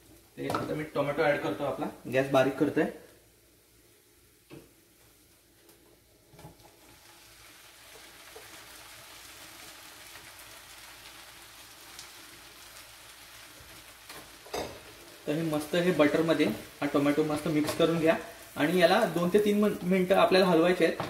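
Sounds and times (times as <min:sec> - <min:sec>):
tomatoes sizzling in butter: 0:00.0 - 0:21.0.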